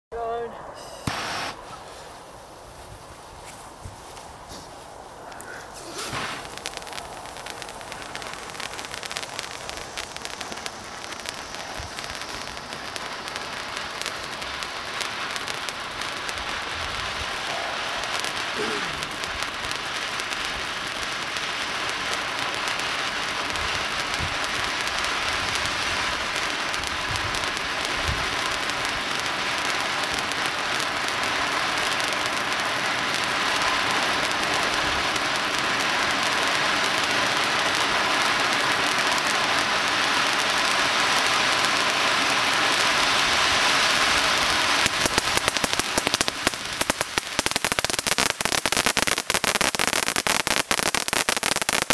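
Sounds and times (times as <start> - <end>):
firework crackling: 0.1 - 51.9
firework fountain hissing: 0.2 - 51.9.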